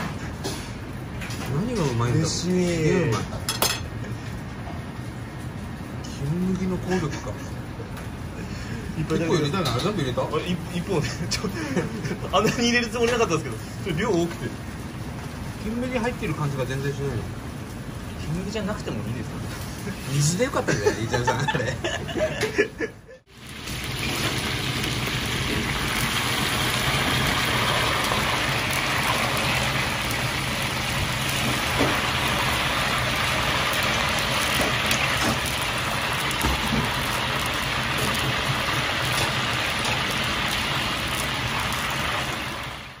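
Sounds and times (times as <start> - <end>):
oil sizzling while deep-frying: 0.0 - 20.6, 23.3 - 43.0.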